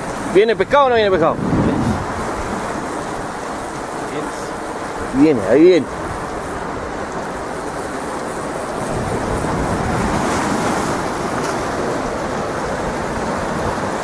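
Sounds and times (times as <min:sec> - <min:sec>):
wind on microphone: 0:00.0 - 0:04.0, 0:05.9 - 0:14.0
waves on choppy water: 0:00.0 - 0:14.0.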